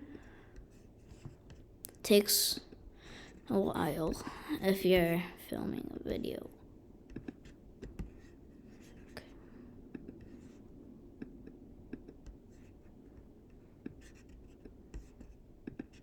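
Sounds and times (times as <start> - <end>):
low steady hiss: 0.0 - 15.8.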